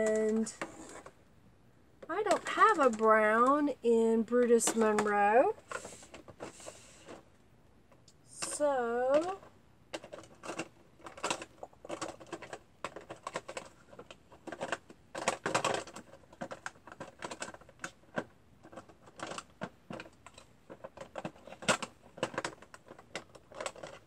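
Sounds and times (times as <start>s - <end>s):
plastic cases clicking and clattering: 0.1s - 1.2s, 2.0s - 3.6s, 4.3s - 7.3s, 7.9s - 24.0s.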